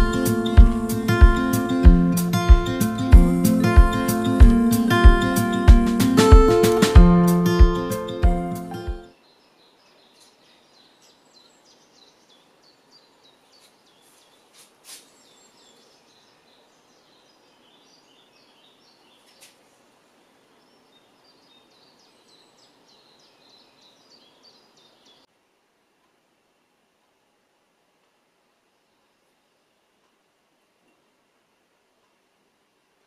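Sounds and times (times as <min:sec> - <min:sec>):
faint birds chirping: 0:00.0 - 0:25.3, 0:28.5 - 0:33.0
low outdoor hiss: 0:00.0 - 0:33.0.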